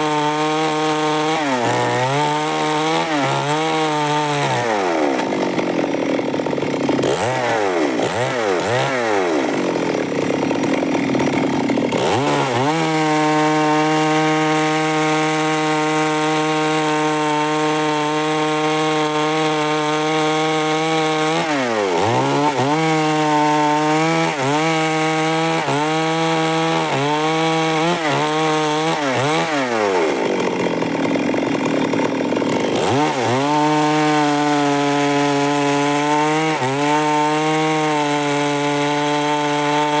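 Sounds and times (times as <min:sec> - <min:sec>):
chainsaw sawing timber: 0:00.0 - 0:40.0.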